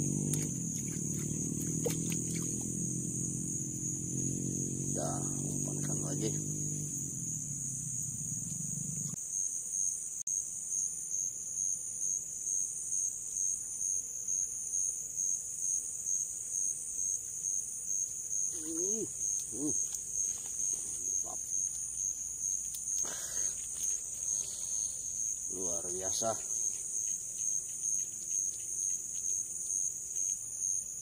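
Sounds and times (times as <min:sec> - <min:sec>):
insects chirping trill: 0:00.0 - 0:31.0.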